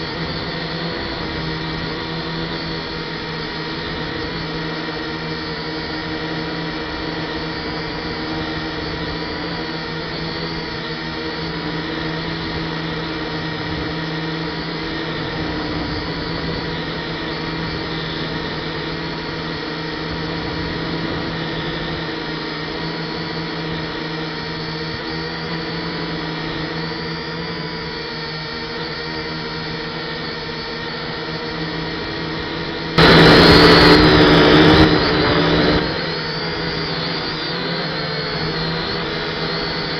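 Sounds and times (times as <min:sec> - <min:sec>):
quadcopter motor and propeller whine: 0:00.0 - 0:39.9.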